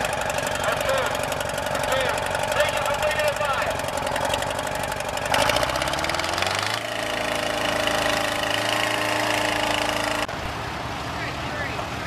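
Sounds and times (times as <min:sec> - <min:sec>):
grader engine driving past: 0:00.0 - 0:11.1.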